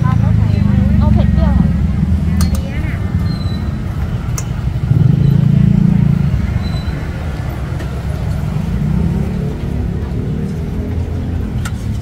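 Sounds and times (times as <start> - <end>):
motor vehicle running close by: 0.0 - 12.0
street traffic rumble: 0.0 - 12.0.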